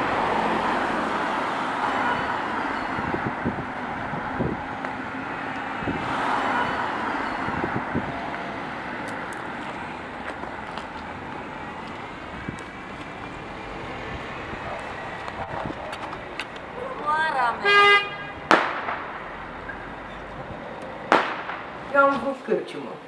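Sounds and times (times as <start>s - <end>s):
car passing: 0.0s - 23.0s
street traffic: 0.0s - 23.0s.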